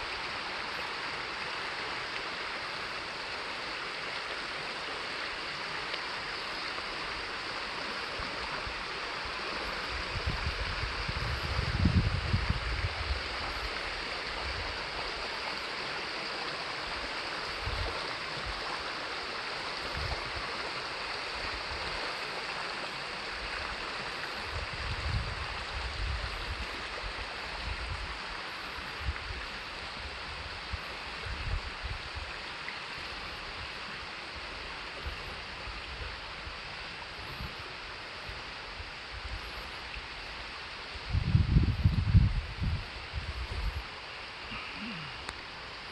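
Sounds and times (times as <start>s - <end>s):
stream flowing over rocks: 0.0s - 45.9s.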